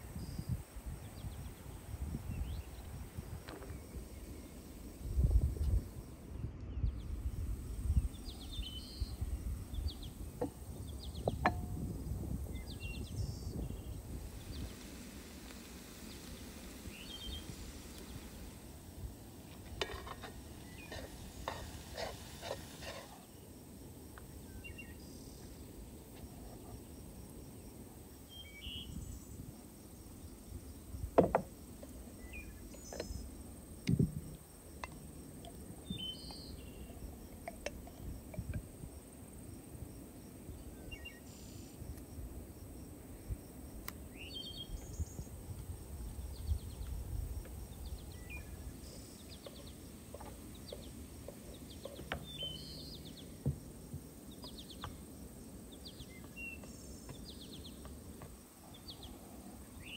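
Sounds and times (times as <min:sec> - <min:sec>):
small birds chirping: 0:00.0 - 0:38.8, 0:40.1 - 0:42.0, 0:43.8 - 0:59.9
faint hiss: 0:00.0 - 0:59.9.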